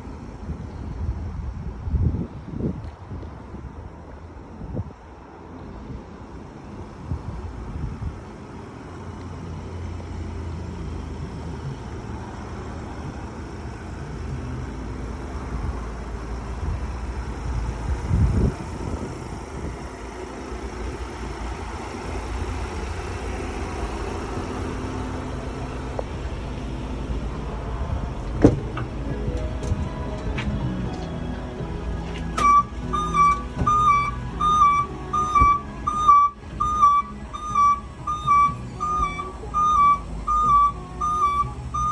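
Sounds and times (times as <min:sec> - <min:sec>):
diesel engine idling: 0:00.0 - 0:41.9
low buffeting rumble: 0:00.0 - 0:41.9.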